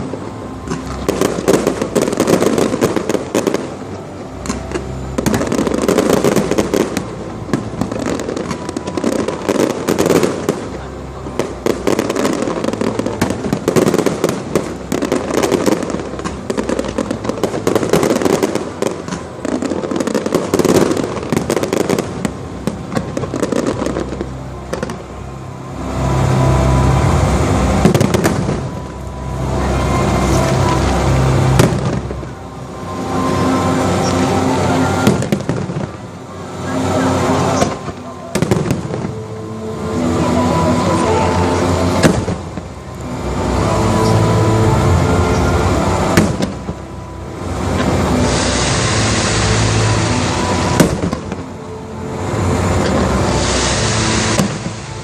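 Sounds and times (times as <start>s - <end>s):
fireworks bursts and crackling: 0.0s - 55.0s
music: 0.0s - 55.0s.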